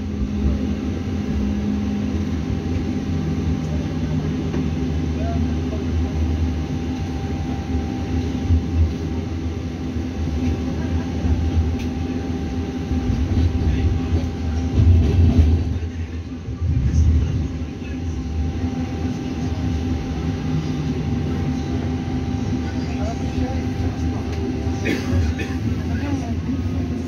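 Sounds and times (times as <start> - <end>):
tram rumbling on rails: 0.0 - 27.0.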